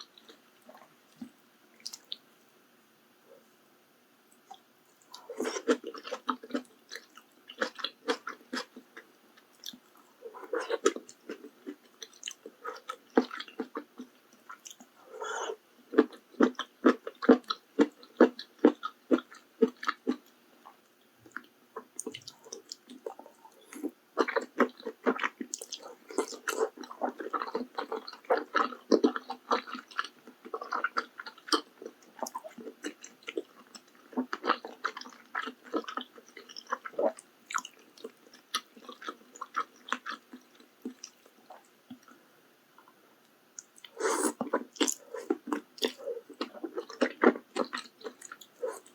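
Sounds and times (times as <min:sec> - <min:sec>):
close chewing: 0:05.1 - 0:20.2, 0:21.3 - 0:42.2, 0:43.6 - 0:48.9.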